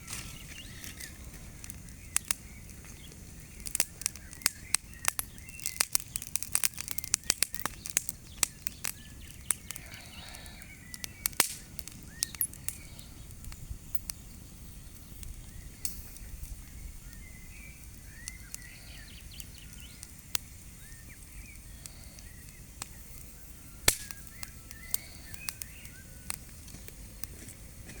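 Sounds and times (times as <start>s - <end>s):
birds chirping: 0.0s - 28.0s
bonfire crackling and popping: 0.0s - 28.0s.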